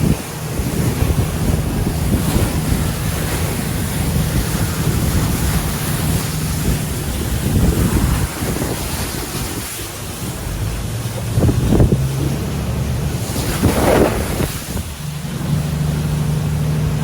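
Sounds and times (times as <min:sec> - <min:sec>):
boat engine droning: 0:00.0 - 0:17.0
water rushing past hull: 0:00.0 - 0:17.0
wind buffeting microphone: 0:00.0 - 0:17.0.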